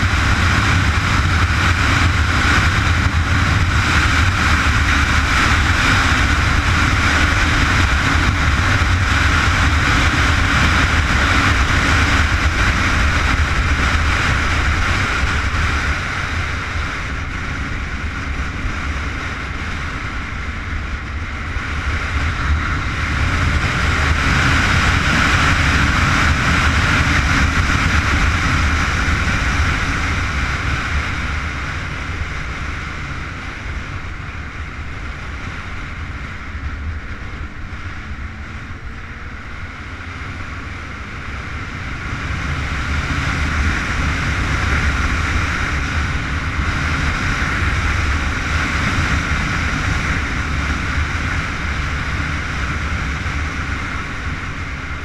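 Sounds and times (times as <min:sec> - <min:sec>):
motorcycle engine under load: 0:00.0 - 0:55.0
wind rush over microphone: 0:00.0 - 0:55.0.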